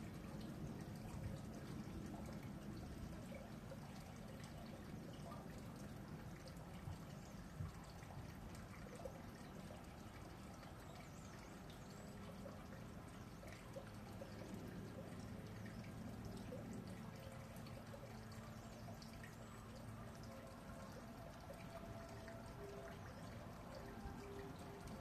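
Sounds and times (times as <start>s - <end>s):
watery trickle: 0.0s - 25.0s.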